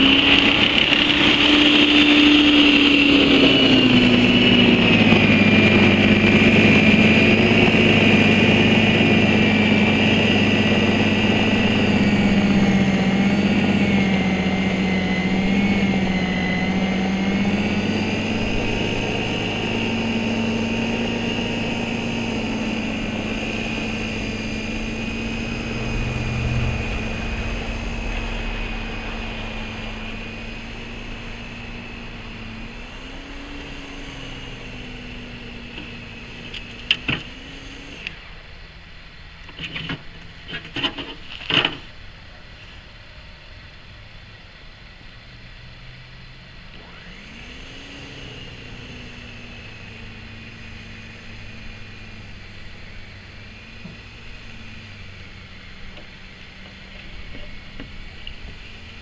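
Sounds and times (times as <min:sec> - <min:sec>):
electric snow thrower motor whining: 0:00.0 - 0:42.0, 0:45.4 - 0:59.0.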